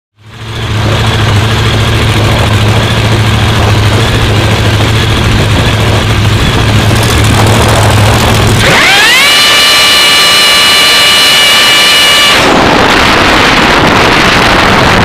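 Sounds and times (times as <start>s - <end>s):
drag-racing engine idling: 0.2s - 15.0s.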